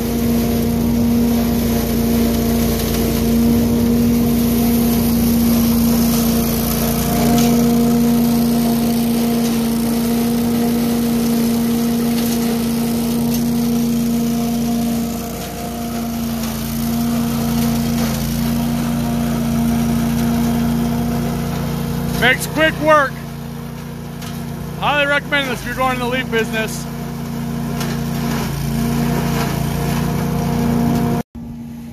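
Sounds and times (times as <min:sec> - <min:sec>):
engine running under load: 0:00.0 - 0:31.9.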